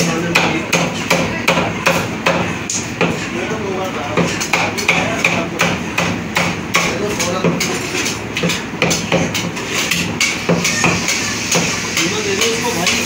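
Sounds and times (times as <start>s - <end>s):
cleavers chopping meat and bone: 0.0s - 3.3s, 4.1s - 13.0s.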